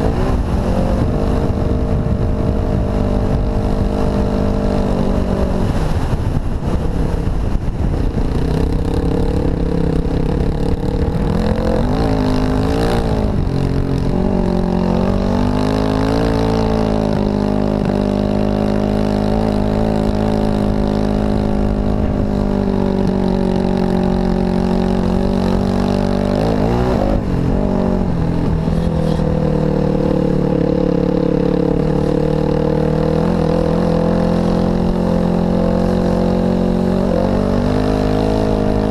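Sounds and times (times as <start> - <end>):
dirt bike engine running: 0.0 - 38.9
wind rumble on microphone: 0.0 - 38.9.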